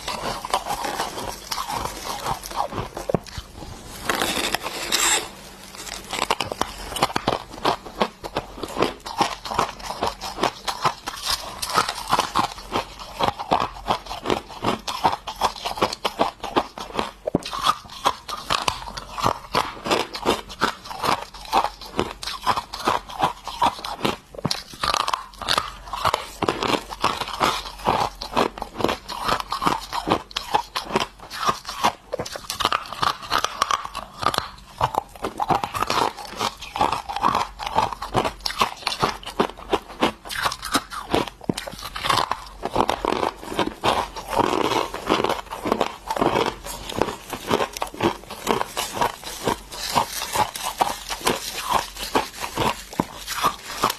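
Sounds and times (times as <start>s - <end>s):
person crunching ice: 0.0s - 53.9s.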